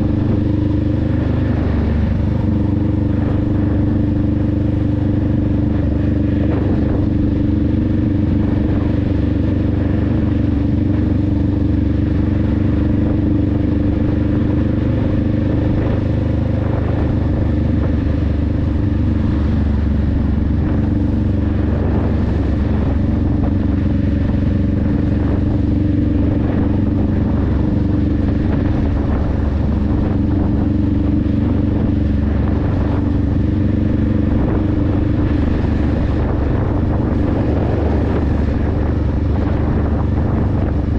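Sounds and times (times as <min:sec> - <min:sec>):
motorcycle engine cruising: 0:00.0 - 0:40.9
wind and road rush: 0:00.0 - 0:40.9.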